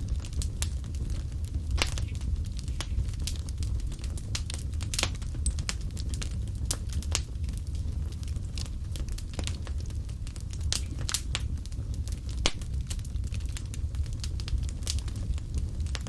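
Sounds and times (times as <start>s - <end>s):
low rumble of flame: 0.0s - 16.0s
wood fire crackling: 0.0s - 16.0s.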